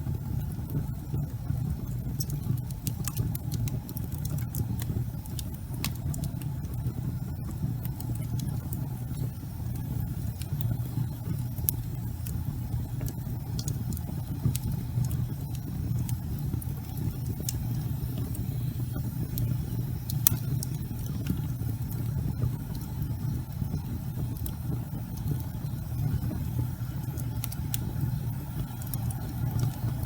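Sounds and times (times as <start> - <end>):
logs crackling and popping: 0.0 - 30.0
wood fire burning: 0.0 - 30.0.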